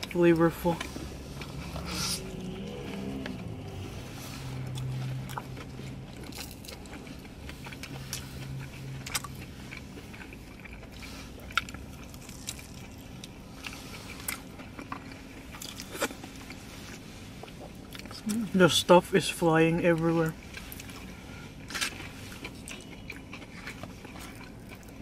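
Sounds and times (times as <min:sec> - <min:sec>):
chewing and biting food: 0:00.0 - 0:18.5, 0:19.6 - 0:25.0.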